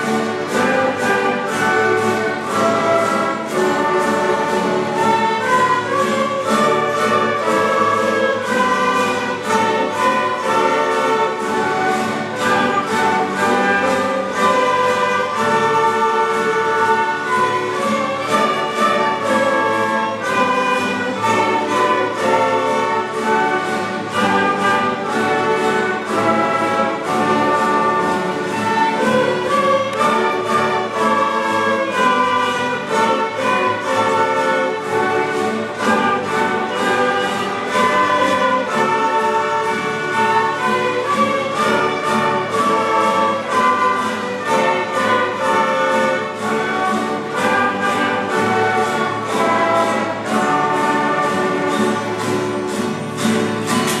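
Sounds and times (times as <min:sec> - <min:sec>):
flutes playing: 0:00.0 - 0:54.0
mandolin and guitar strumming: 0:00.0 - 0:54.0
violins playing: 0:00.0 - 0:54.0.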